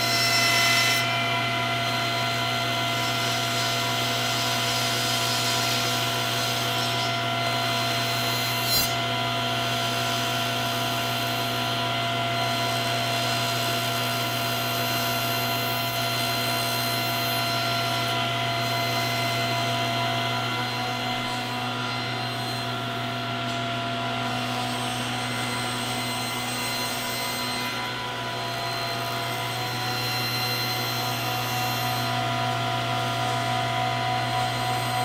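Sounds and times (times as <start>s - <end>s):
table saw cutting wood: 0.0s - 35.0s.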